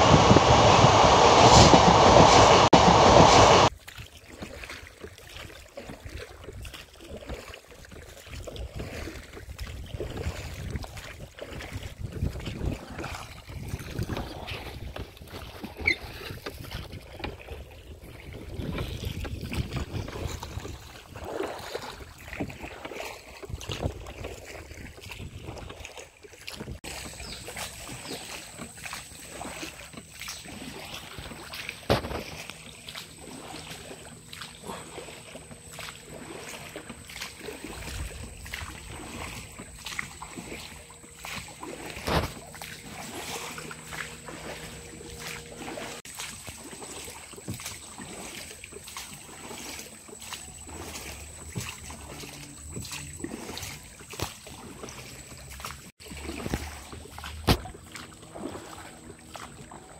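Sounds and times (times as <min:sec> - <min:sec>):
water lapping against hull: 0:00.0 - 0:59.9
oar strokes: 0:08.2 - 0:59.9.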